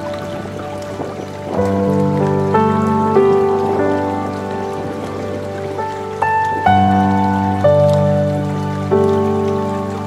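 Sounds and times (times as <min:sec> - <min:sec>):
calm background music: 0:00.0 - 0:10.0.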